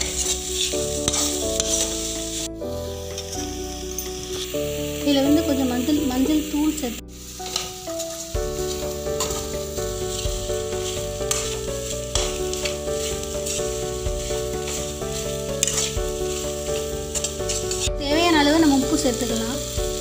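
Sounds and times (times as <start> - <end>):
metal spatula scraping a pan: 0.0 - 5.8, 7.1 - 20.0
background melody: 0.0 - 20.0
food sizzling in hot oil: 0.0 - 20.0.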